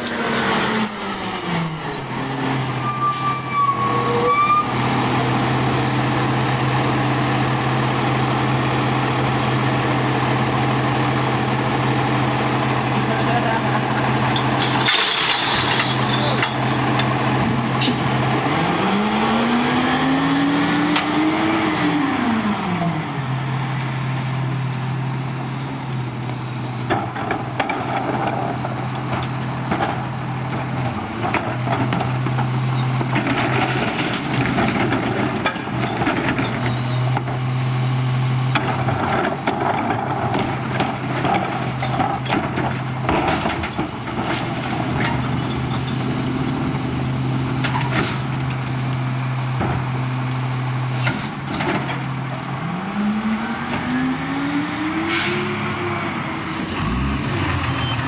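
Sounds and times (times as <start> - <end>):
garbage truck engine revving: 3.9 - 24.4, 27.8 - 58.0.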